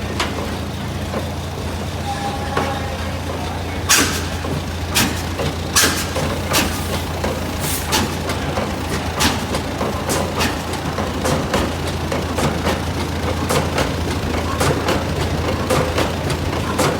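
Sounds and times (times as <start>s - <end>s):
engine exhaust bursts: 0.0s - 16.9s
low engine hum: 0.0s - 16.9s.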